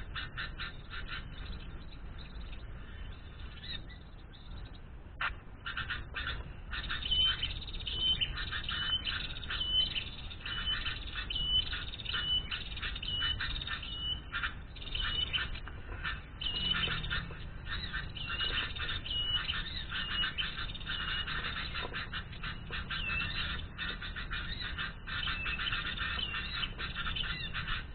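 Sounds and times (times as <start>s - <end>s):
birds chattering and chirping: 0.0s - 27.9s.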